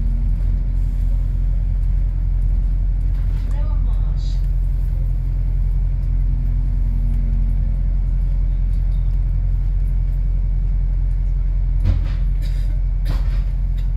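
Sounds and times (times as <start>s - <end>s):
bus rumbling: 0.0s - 13.9s.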